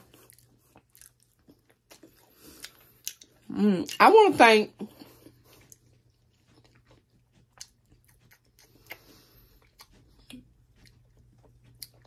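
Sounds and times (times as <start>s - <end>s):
faint chewing of soft food: 0.0s - 4.0s, 4.8s - 12.0s.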